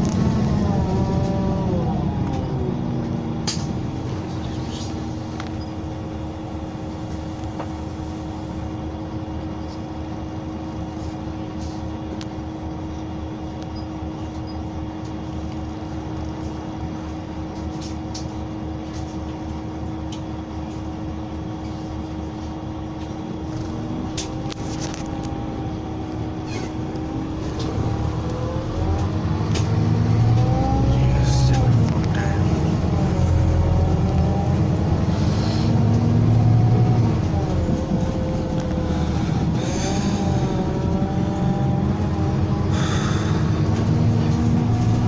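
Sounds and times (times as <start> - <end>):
bus diesel engine running: 0.0 - 45.0.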